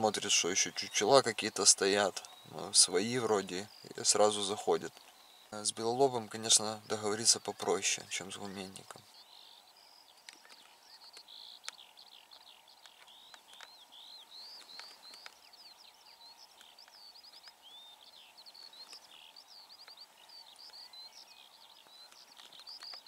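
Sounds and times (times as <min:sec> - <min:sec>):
flock of birds calling: 0:00.0 - 0:23.0.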